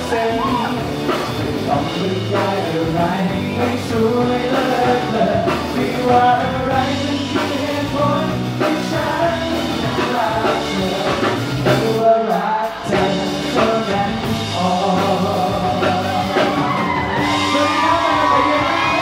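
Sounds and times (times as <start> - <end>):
backing music: 0.0 - 19.0
men singing pop song: 0.0 - 19.0.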